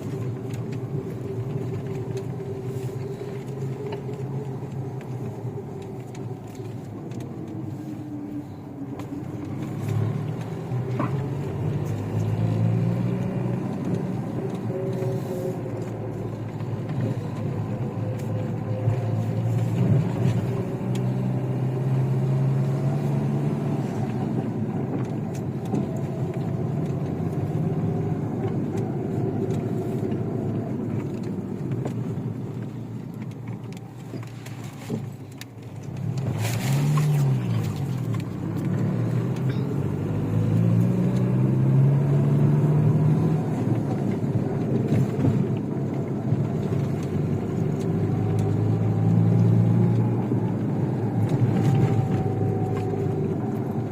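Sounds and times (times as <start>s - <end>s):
car engine revving off-road: 0.0s - 53.9s.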